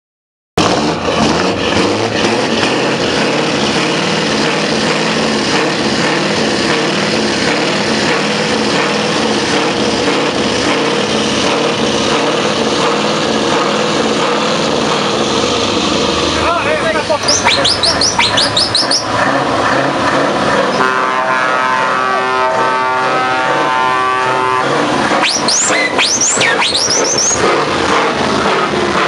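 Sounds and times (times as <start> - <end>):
diesel engine idling: 0.6 - 29.0.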